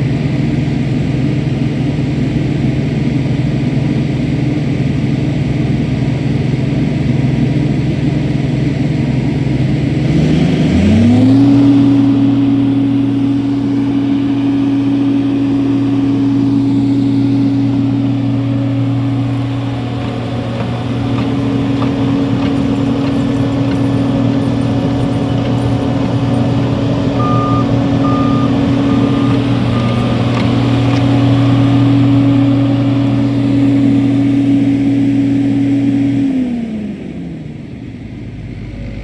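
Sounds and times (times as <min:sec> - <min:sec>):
heavy diesel engine revving: 0:05.4 - 0:37.2, 0:38.2 - 0:39.0.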